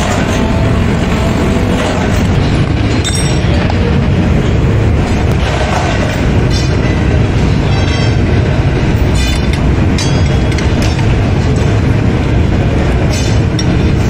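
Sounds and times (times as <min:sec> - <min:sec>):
heavy machinery rumbling: 0:00.0 - 0:14.0.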